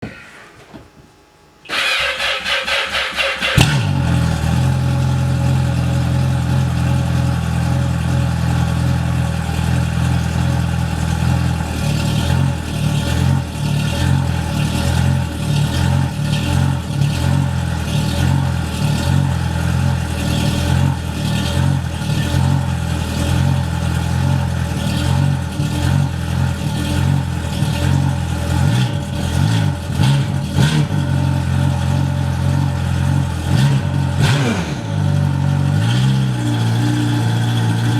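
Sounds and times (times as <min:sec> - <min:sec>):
watercraft engine idling and revving: 0:02.9 - 0:37.9.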